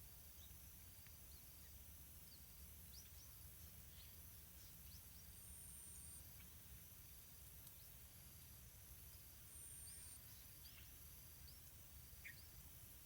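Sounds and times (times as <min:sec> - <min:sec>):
faint high-pitched whine: 0:00.0 - 0:13.0.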